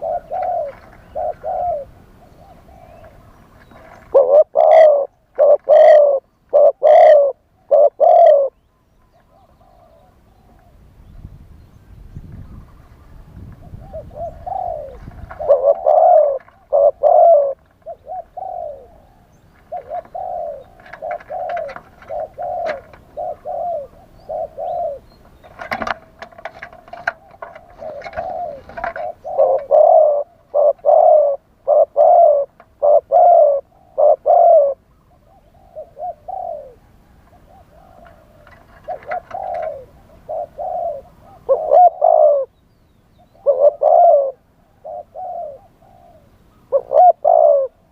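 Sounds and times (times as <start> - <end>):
dove cooing: 0.0 - 10.9, 12.5 - 42.6, 43.2 - 47.9.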